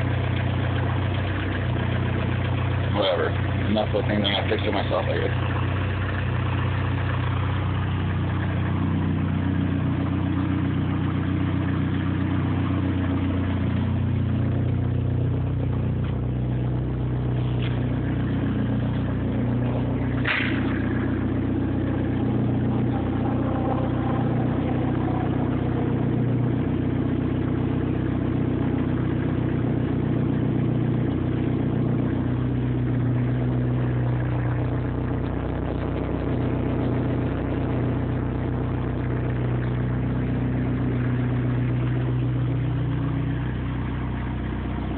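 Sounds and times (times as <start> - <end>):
car exhaust idling: 0.0 - 44.9.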